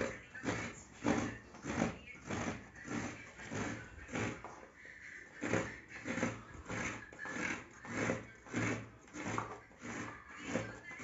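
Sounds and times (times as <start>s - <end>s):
coconut rasping on metal grater: 0.0s - 11.0s.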